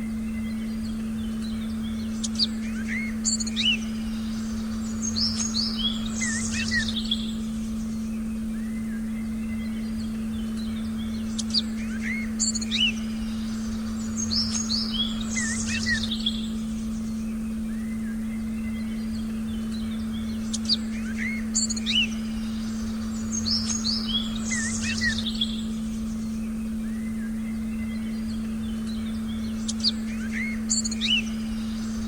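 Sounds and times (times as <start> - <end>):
forest birdsong: 0.0 - 32.0
low meditation tone: 0.0 - 32.0.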